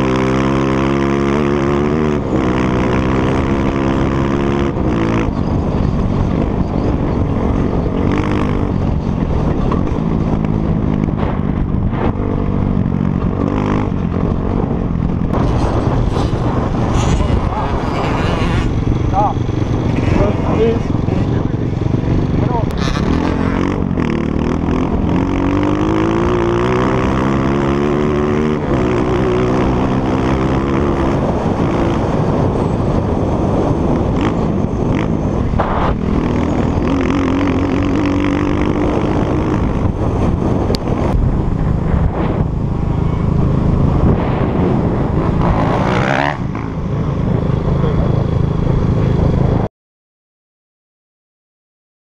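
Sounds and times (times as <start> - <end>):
dirt bike engine accelerating: 0.0 - 49.7
wind buffeting on microphone: 0.0 - 49.7.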